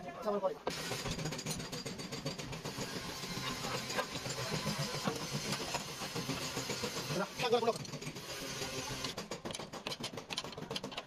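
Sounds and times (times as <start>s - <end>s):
motor running with rattle: 0.6s - 11.0s.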